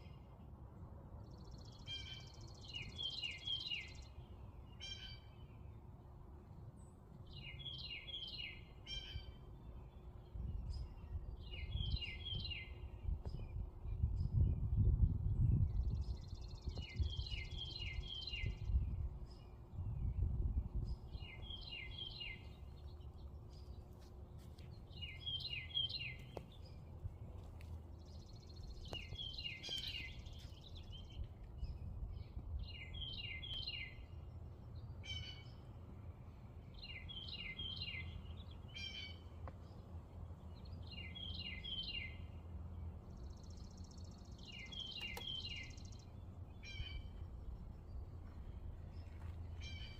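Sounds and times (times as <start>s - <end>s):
songbird singing whistled notes: 1.2s - 5.6s, 7.2s - 23.8s, 24.9s - 27.4s, 28.0s - 35.6s, 36.6s - 39.3s, 40.5s - 42.4s, 43.1s - 49.9s.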